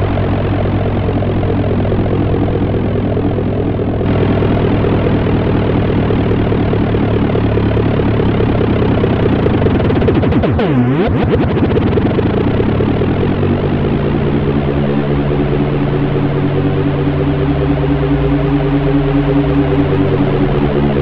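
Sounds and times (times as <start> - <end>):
synthesizer drone: 0.0 - 21.0.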